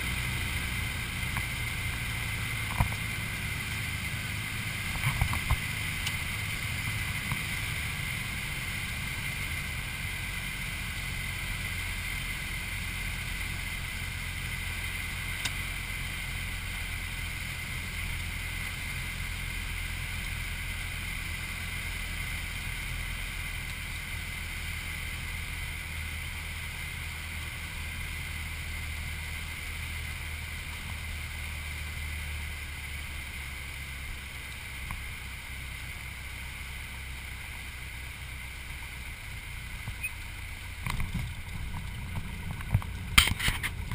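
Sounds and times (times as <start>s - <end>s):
airplane engine and propeller droning: 0.0s - 43.9s.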